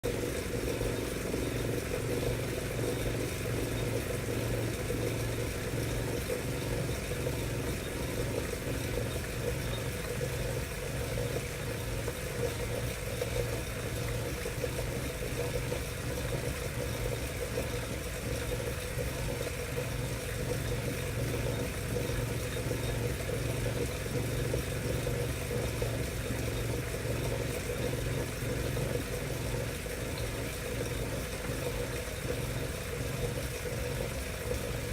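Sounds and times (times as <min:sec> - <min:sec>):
bike trainer pulsing hum: 0:00.0 - 0:34.9.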